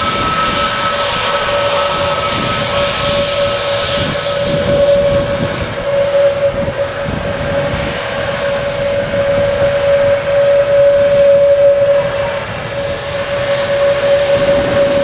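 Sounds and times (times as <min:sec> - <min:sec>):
jet engines whining and rumbling: 0:00.0 - 0:15.0.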